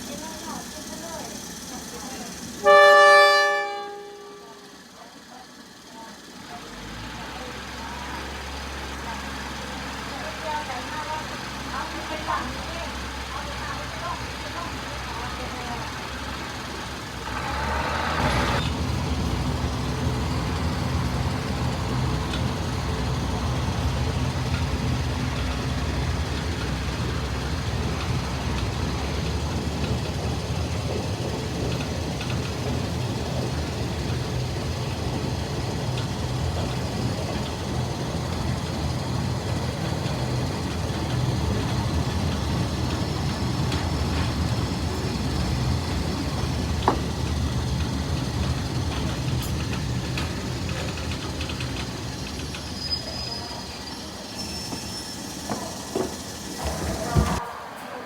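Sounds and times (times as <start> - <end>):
diesel railcar droning: 0.0 - 58.0.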